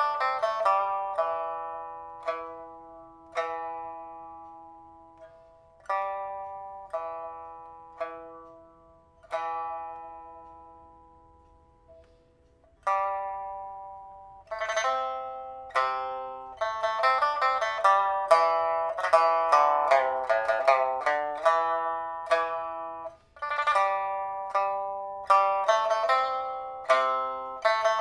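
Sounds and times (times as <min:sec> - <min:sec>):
pipa plucked notes: 0:00.0 - 0:28.0.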